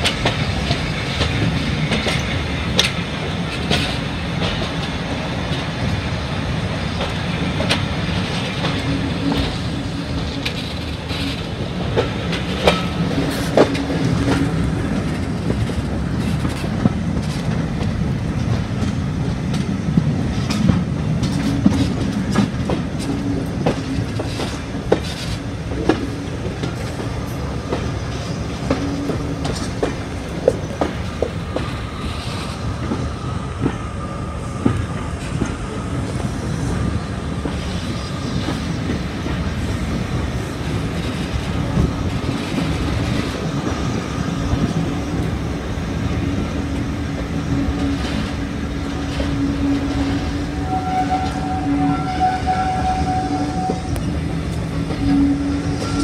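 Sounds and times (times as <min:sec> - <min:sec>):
clacks over rail joints: 0:00.0 - 0:33.8, 0:34.6 - 0:56.0
train wheels rumbling: 0:00.0 - 0:56.0.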